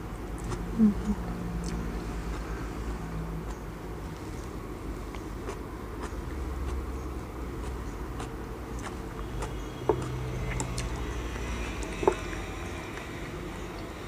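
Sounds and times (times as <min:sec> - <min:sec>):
chewing: 0:00.3 - 0:14.0.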